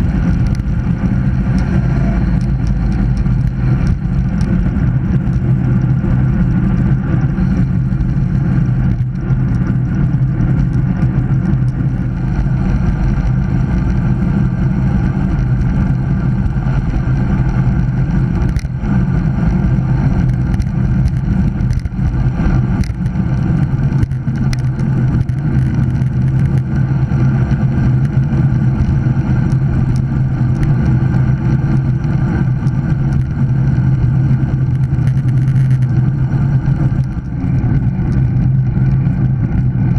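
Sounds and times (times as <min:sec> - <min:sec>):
bicycle tyres on asphalt: 0:00.0 - 0:39.9
steady low hum: 0:00.0 - 0:39.9
wind rushing over camera: 0:00.0 - 0:39.9.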